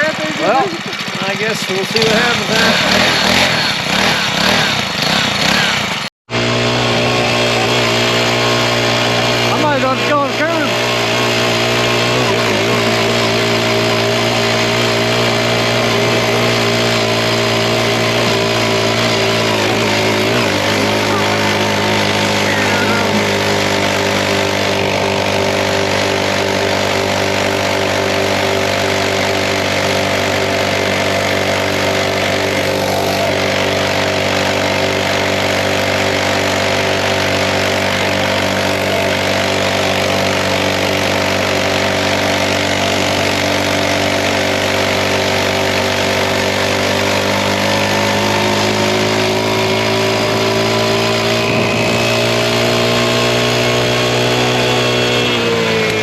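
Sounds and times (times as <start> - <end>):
small bike engine running: 0.0 - 56.0.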